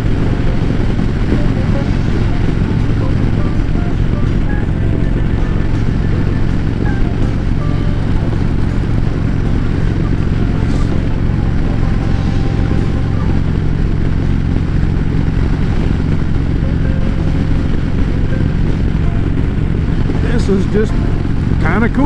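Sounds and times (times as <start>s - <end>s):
motorcycle engine cruising: 0.0s - 22.0s
rushing wind: 0.0s - 22.0s.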